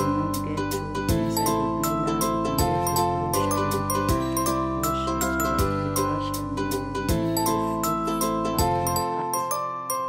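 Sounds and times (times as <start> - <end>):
sustained melodic notes: 0.0 - 10.0.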